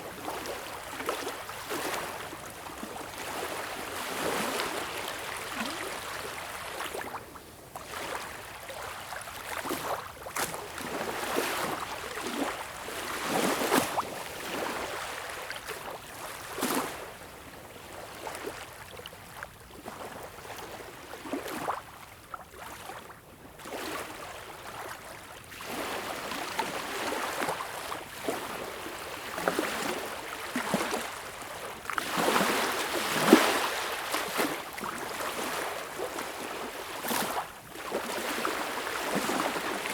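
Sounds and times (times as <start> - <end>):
small waves lapping on a beach: 0.0 - 39.9.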